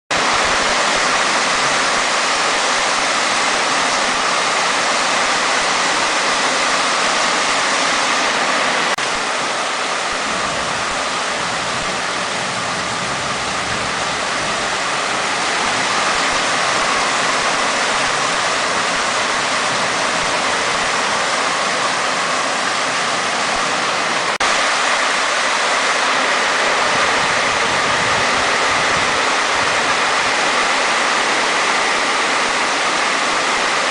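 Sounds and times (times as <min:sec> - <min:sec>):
heavy rain pouring water: 0:00.1 - 0:33.9.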